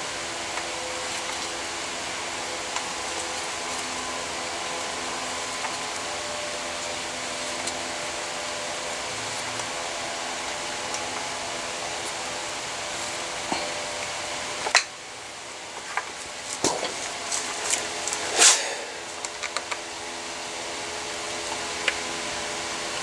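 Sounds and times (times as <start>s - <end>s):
machine hum and hiss: 0.0s - 23.0s.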